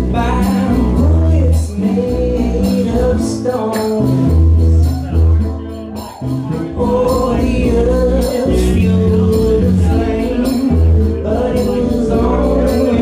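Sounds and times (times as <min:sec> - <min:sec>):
lead vocal: 0:00.0 - 0:05.2, 0:06.0 - 0:13.0
live rock band playing: 0:00.0 - 0:13.0.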